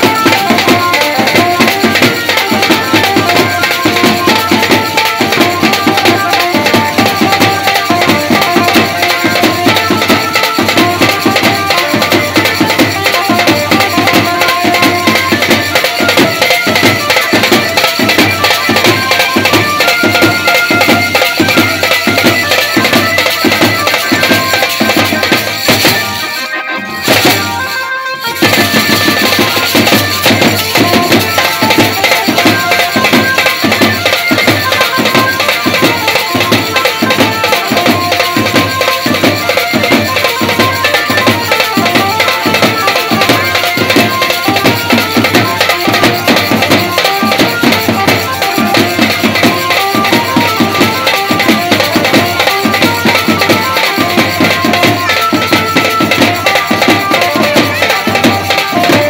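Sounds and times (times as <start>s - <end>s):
side drums and snare drum beat: 0.0s - 59.0s.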